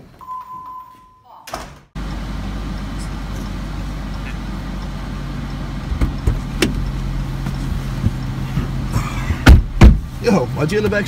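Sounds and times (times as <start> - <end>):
car engine idling: 1.9 - 11.0.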